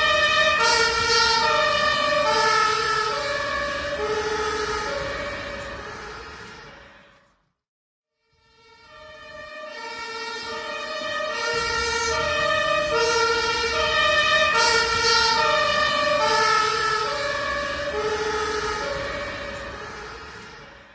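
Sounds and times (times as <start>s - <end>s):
two-tone ambulance siren: 0.0s - 7.4s, 8.2s - 20.9s
engine and road rumble: 0.0s - 7.6s, 8.4s - 20.9s.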